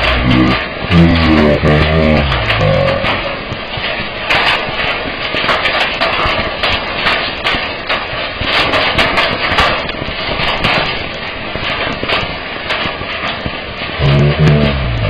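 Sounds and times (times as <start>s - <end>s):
hail clattering on metal sheeting: 0.0s - 15.0s.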